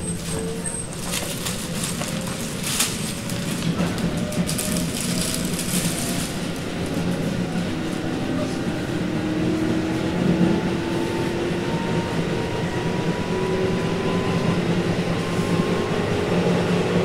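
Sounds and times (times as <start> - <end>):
train traction motors whining: 0.0 - 17.0
wheel and rail rumble: 0.0 - 17.0.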